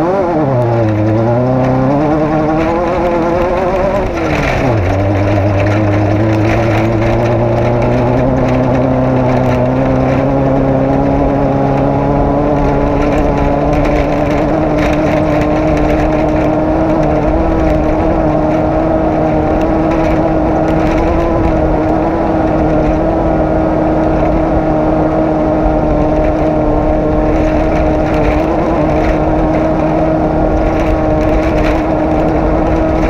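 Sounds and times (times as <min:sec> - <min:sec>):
race car engine running hard: 0:00.0 - 0:33.0.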